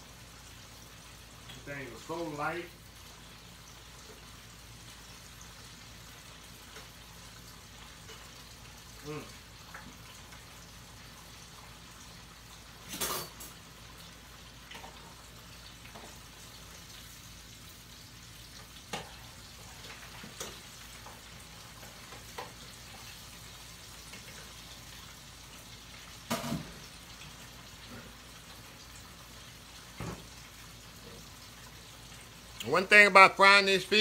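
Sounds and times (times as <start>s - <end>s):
food sizzling in deep fryer: 0.0s - 34.0s.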